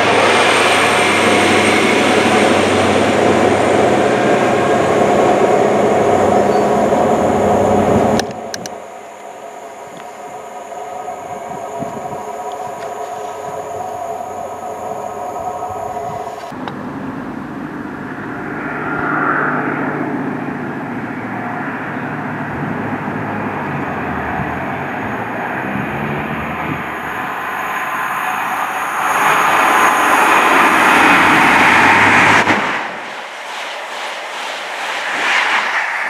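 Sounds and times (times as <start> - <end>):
train passing rumble: 0.0 - 36.0.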